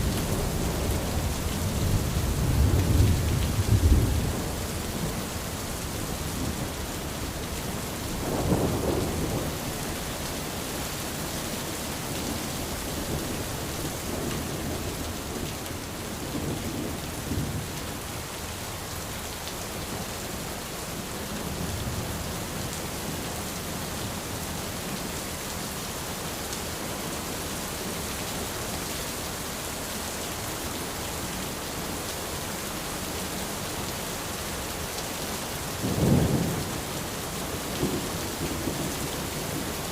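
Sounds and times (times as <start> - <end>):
rain on an umbrella: 0.0 - 39.9.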